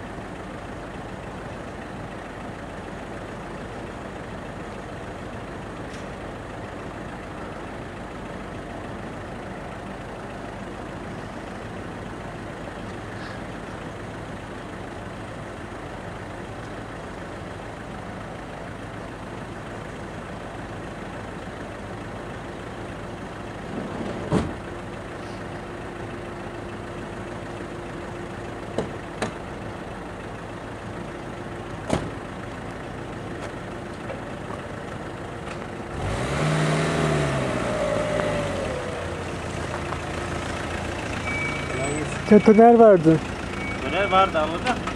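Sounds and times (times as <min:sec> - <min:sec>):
truck engine running: 0:00.0 - 0:44.9.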